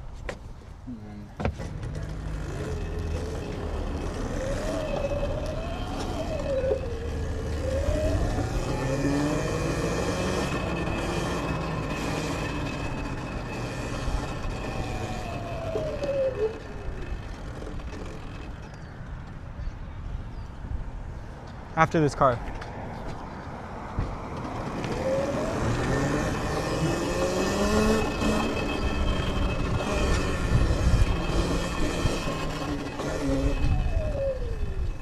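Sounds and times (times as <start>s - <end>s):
wind: 0.0s - 35.0s
electric motor whining: 1.5s - 19.3s, 24.6s - 35.0s.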